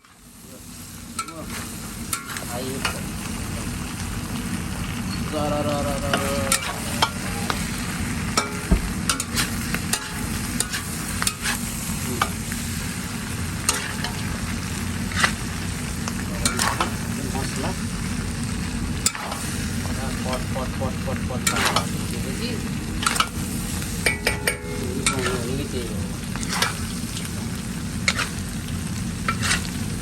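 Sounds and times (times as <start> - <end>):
meat sizzling in a pan: 0.0 - 30.0.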